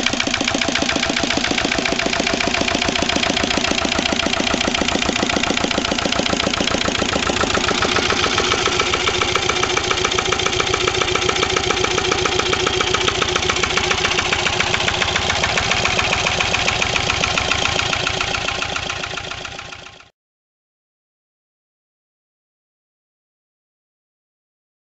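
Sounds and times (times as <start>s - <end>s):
diesel stationary engine knocking: 0.0s - 20.1s.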